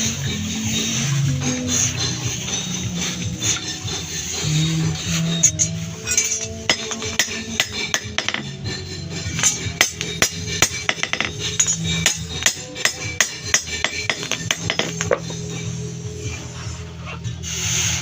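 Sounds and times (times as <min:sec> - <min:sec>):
hammer striking metal: 0:00.0 - 0:15.8
background music: 0:00.0 - 0:18.0.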